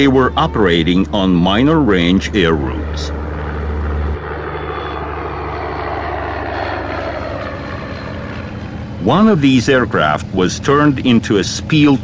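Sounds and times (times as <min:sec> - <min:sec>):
low hum: 0:00.0 - 0:12.0
propeller airplane engines droning: 0:00.0 - 0:12.0.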